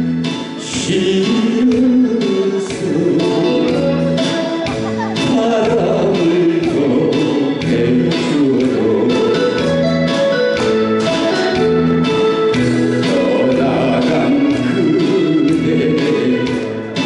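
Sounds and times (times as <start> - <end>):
instrumental backing track: 0.0 - 17.0.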